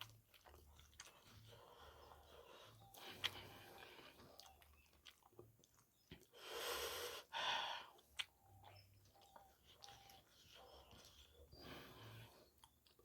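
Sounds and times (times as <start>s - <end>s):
mouth chewing with wet smacks: 0.0s - 6.4s, 7.8s - 13.0s.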